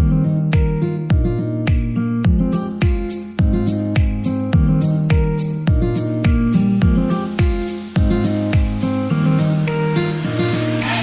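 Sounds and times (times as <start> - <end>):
background music with guitar chords: 0.0 - 11.0.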